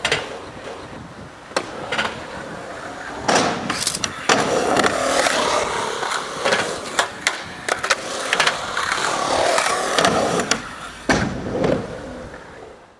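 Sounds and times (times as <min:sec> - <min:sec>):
skateboard clacks and knocks: 0:00.0 - 0:12.0
skateboard rolling on concrete: 0:00.0 - 0:12.9.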